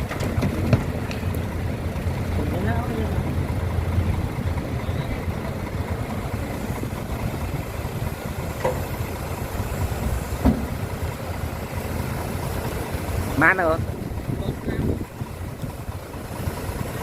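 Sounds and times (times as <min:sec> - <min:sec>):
heavy engine rumbling: 0:00.0 - 0:17.0.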